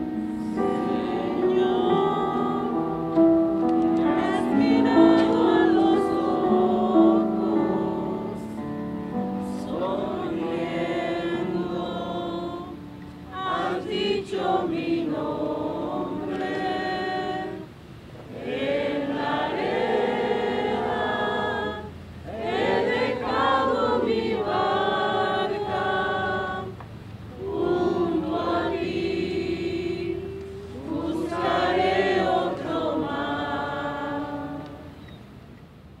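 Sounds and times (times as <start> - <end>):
group singing: 0.0 - 3.2, 4.0 - 8.6, 9.4 - 35.2.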